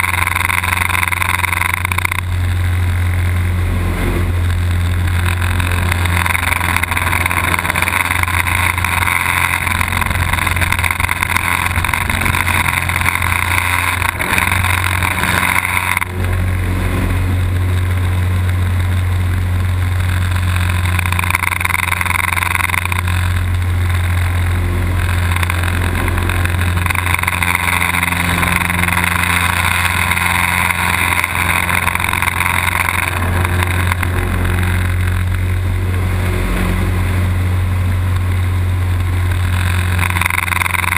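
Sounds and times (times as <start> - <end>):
plane engine drone: 0.0 - 40.9
rush of engine and air: 0.0 - 40.9.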